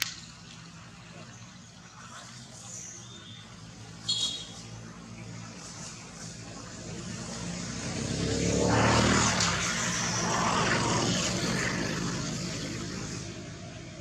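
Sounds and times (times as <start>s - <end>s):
motor vehicle passing by: 0.0s - 14.0s.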